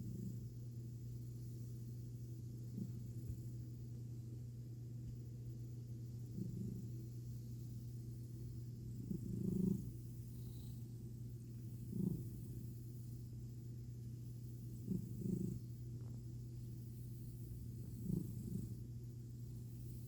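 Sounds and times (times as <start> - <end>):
cat purring: 0.0 - 4.0, 5.1 - 20.0.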